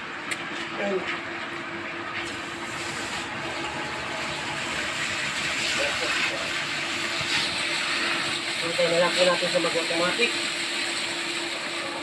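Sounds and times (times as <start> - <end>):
water gushing from tank drain: 2.2 - 12.0.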